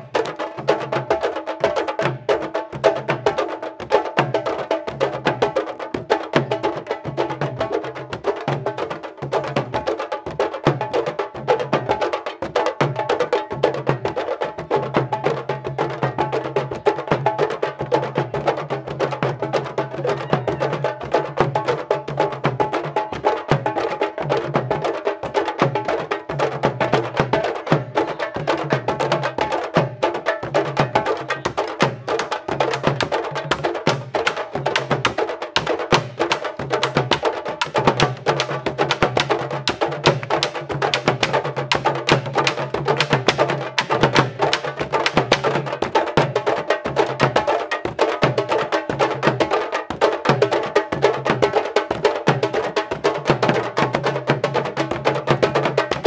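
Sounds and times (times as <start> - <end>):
group of drums beating fast: 0.0 - 56.0.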